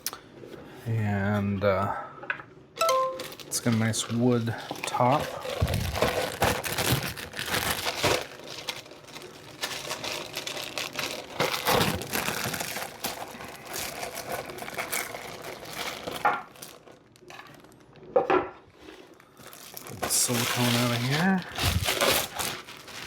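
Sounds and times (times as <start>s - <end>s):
packaging crinkling and rustling: 3.0s - 23.0s.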